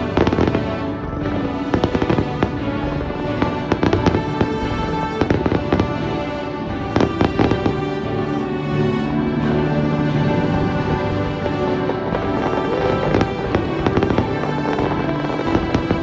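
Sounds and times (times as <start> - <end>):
fireworks bangs and crackles: 0.0 - 6.1, 6.9 - 7.8, 9.2 - 16.0
music playing: 0.0 - 16.0.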